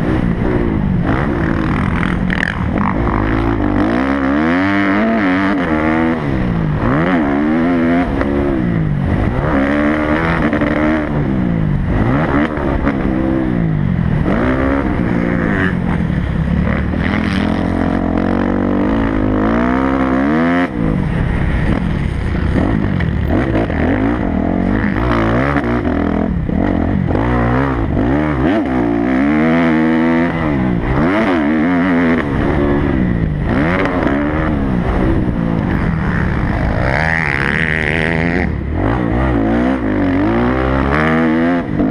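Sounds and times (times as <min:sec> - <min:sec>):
motocross bike engine revving: 0:00.0 - 0:41.9.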